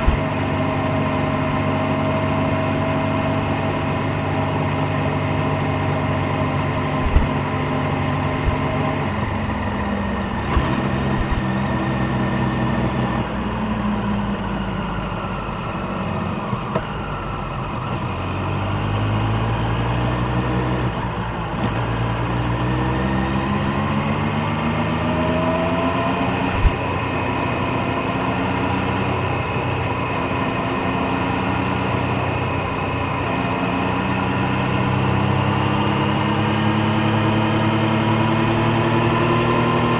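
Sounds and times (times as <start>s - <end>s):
motorcycle engine revving: 0.0s - 14.7s, 17.9s - 39.9s.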